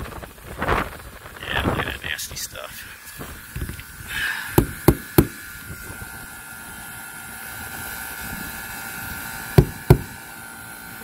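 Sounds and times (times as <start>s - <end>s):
machine drone: 0.0s - 11.0s.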